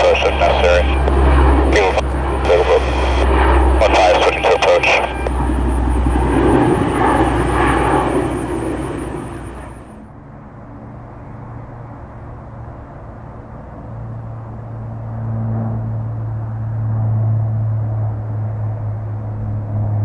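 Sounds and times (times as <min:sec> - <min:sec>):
low propeller drone: 0:00.0 - 0:20.0
turboprop plane passing overhead: 0:00.0 - 0:20.0.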